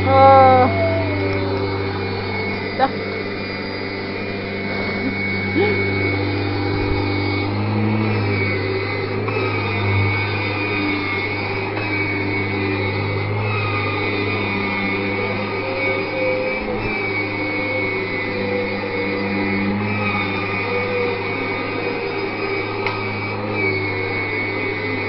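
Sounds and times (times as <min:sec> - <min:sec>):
vacuum cleaner motor running: 0:00.0 - 0:25.0.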